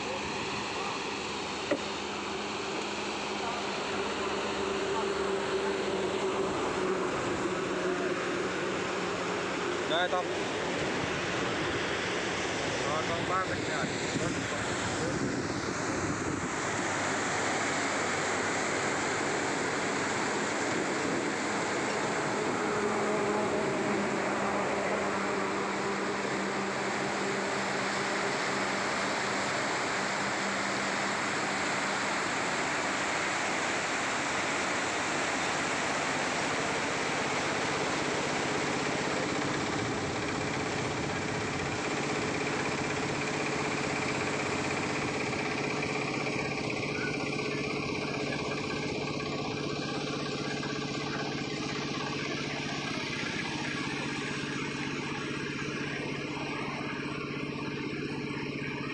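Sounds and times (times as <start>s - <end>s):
engine hum: 0.0s - 58.9s
floodwater rushing: 0.0s - 58.9s.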